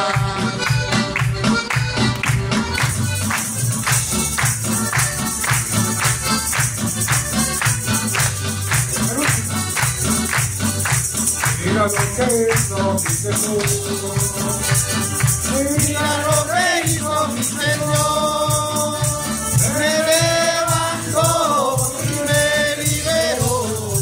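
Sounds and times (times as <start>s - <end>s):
church band playing: 0.0s - 24.0s
drums and bass beat: 0.0s - 24.0s.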